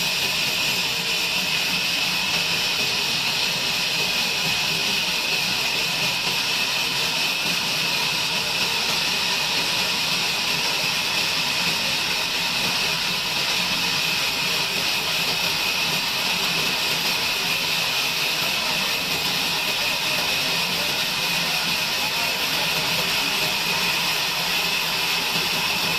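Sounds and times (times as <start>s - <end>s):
band saw running: 0.0s - 25.9s.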